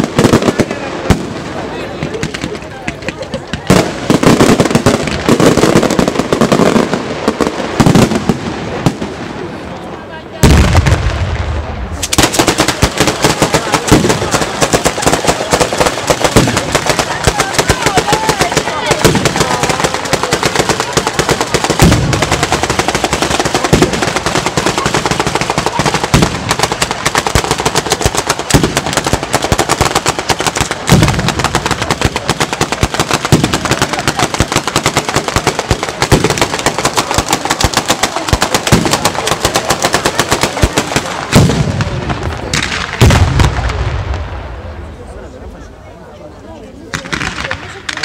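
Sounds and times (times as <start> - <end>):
firecrackers banging rapidly: 0.0 - 9.6, 10.4 - 44.3, 46.9 - 48.0
deep firework booms: 0.0 - 9.7, 10.3 - 45.3.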